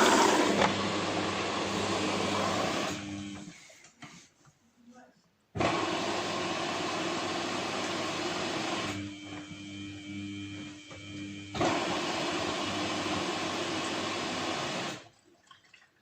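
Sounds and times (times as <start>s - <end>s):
washing machine whirring: 0.0s - 3.5s, 5.6s - 15.2s.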